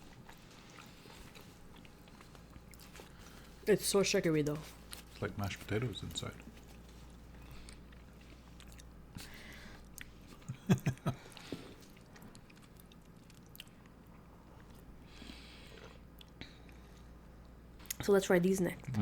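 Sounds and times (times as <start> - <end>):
mouth chewing soft sweet: 0.0 - 18.0.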